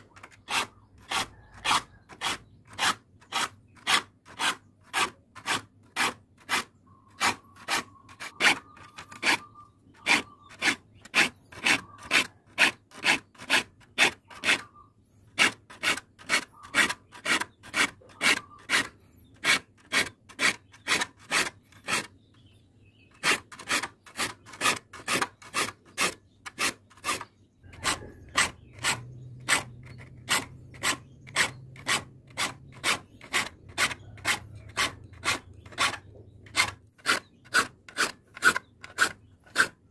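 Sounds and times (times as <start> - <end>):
file rasping on saw teeth: 0.0 - 39.9.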